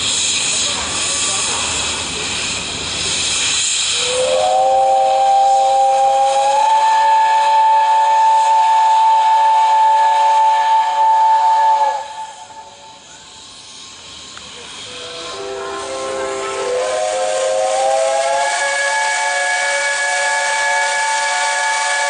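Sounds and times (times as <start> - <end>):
steam hissing: 0.0 - 22.0
steam locomotive whistle: 3.2 - 22.0.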